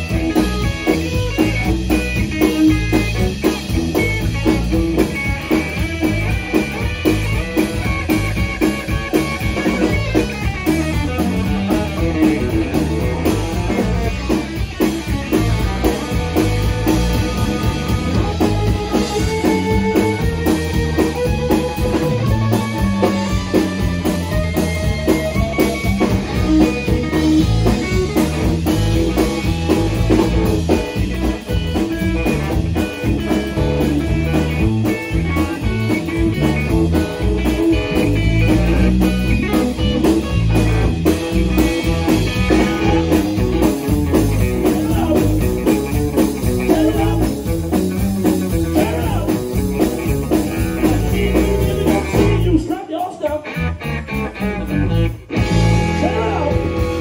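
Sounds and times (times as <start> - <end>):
drum kit: 0.0 - 57.0
electric bass: 0.0 - 57.0
electric guitar lead lines: 0.0 - 57.0.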